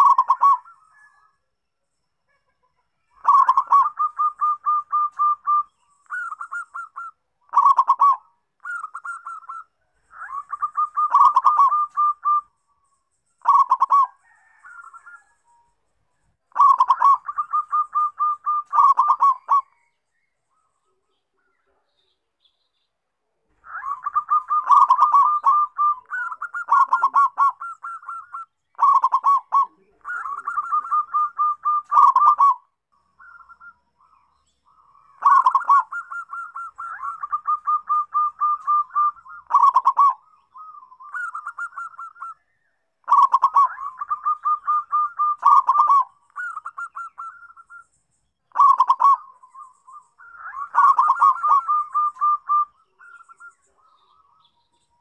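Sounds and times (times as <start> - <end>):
dove cooing song: 0.0 - 1.4, 2.3 - 21.8, 23.5 - 55.0.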